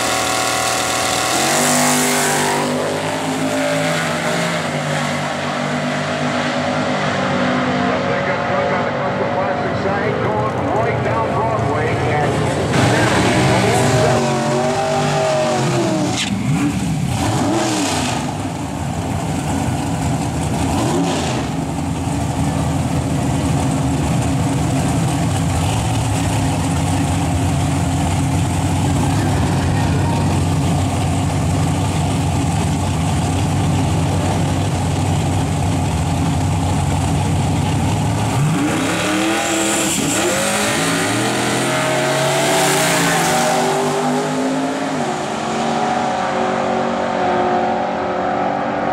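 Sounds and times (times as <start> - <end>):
racing car engines revving: 0.0 - 48.9.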